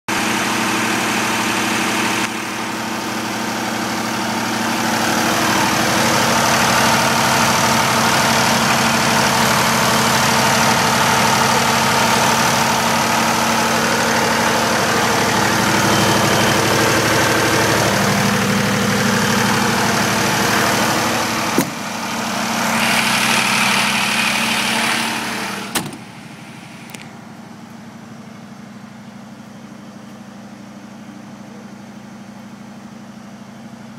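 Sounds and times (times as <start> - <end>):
diesel generator running: 0.1 - 33.9.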